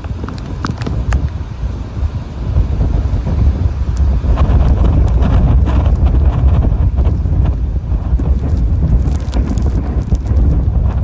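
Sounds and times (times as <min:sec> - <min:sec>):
driving rain hissing: 0:00.0 - 0:11.0
wind buffeting microphone: 0:00.0 - 0:11.0.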